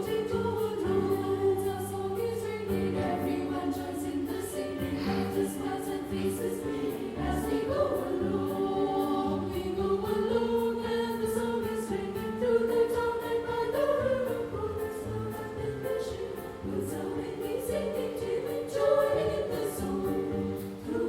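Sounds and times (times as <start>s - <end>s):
women's choir singing: 0.0s - 21.0s.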